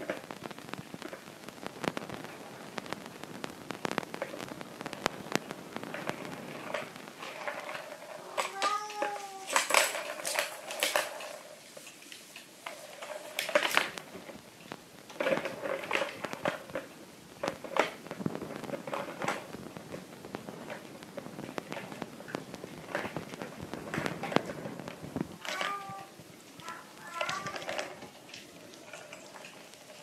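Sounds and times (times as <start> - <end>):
plastic balls rolling and rattling: 0.0 - 30.0
kittens batting plastic toy: 3.9 - 30.0.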